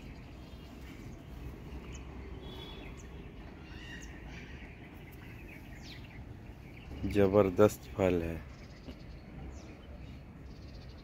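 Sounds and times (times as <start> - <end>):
faint bird chirps: 0.0 - 11.0
low outdoor background noise: 0.0 - 11.0.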